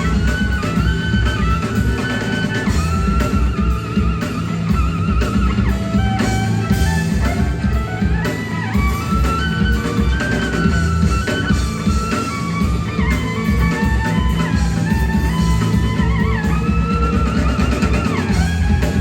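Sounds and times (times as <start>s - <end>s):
bass guitar: 0.0s - 19.0s
drums: 0.0s - 19.0s
lead guitar with vibrato: 0.0s - 19.0s.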